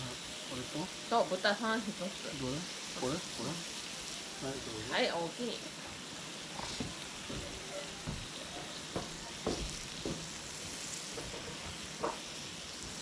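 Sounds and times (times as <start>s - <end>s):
meat sizzling: 0.0s - 13.0s.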